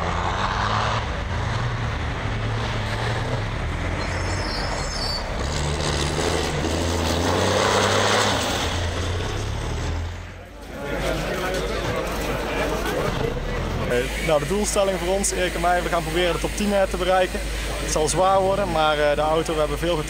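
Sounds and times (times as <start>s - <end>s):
diesel truck engines driving past: 0.0s - 20.0s.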